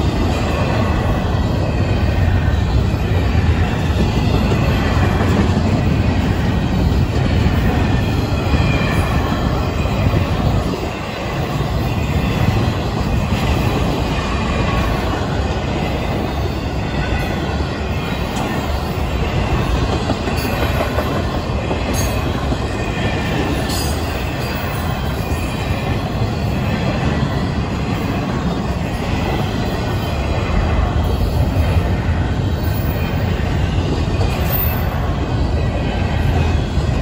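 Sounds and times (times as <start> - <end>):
freight train wheels rumbling on rail: 0.0 - 37.0.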